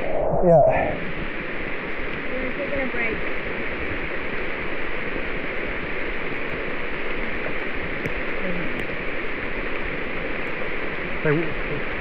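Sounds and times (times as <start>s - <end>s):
heavy rain falling: 1.0s - 12.0s.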